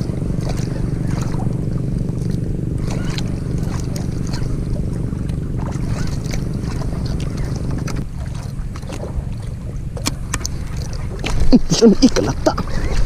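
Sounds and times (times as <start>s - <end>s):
boat engine running: 0.0s - 13.0s
water splashing against hull: 0.0s - 13.0s.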